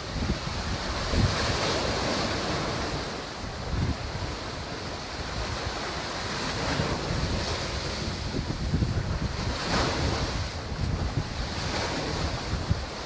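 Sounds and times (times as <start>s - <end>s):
waves washing: 0.0s - 13.0s
wind gusting over microphone: 0.0s - 13.0s.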